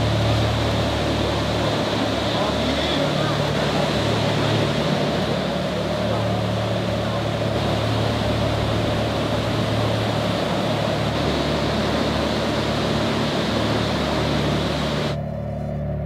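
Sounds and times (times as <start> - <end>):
waterfall rushing: 0.0 - 15.2
low steady hum: 0.0 - 16.0.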